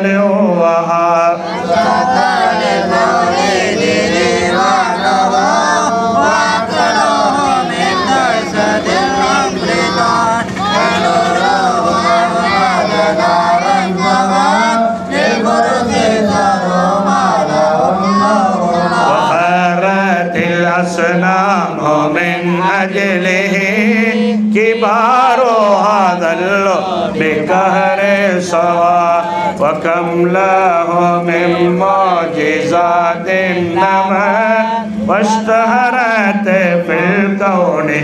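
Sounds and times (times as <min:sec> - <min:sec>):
men chanting through microphone: 0:00.0 - 0:38.0.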